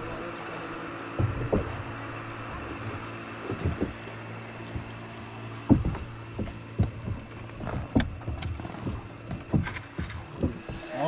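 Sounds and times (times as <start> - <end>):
faint steady hum: 0.0 - 11.0
water lapping against boat: 0.0 - 11.0
paddle knocking on wooden hull: 1.1 - 11.0.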